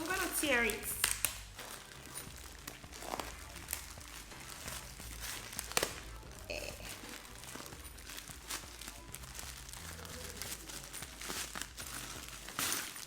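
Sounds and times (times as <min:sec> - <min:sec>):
gift wrapping tearing and crinkling: 0:00.0 - 0:13.0.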